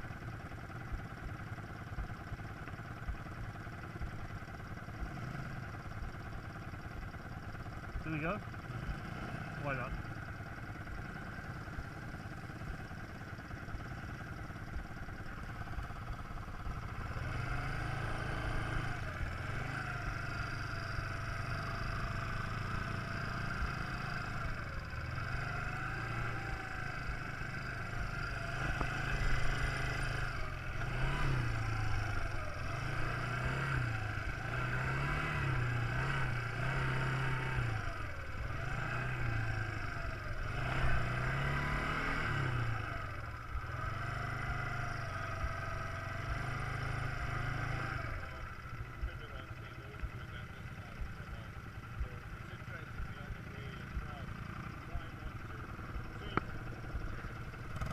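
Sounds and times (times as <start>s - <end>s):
quad bike engine revving: 2.4s - 57.9s.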